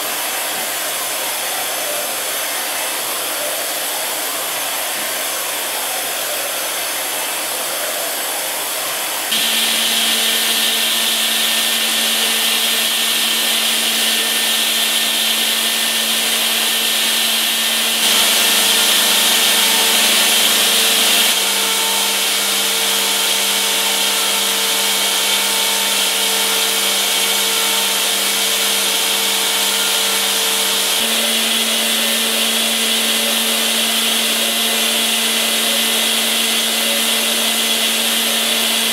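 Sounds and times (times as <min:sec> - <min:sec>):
high spindle whine: 0:00.0 - 0:38.9
milling machine cutting metal: 0:00.0 - 0:38.9.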